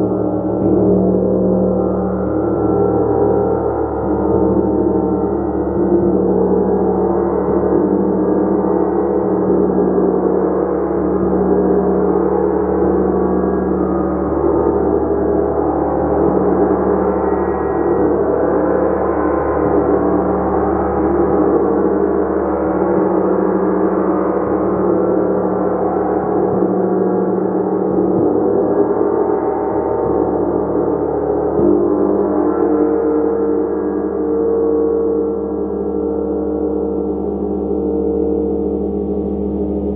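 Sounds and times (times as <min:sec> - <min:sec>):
gong played continuously: 0:00.0 - 0:39.9.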